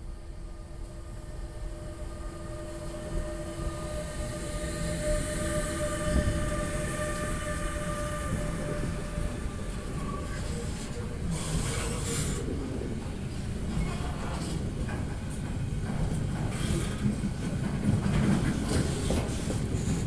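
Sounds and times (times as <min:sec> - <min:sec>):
electric locomotive whine: 0:00.0 - 0:20.0.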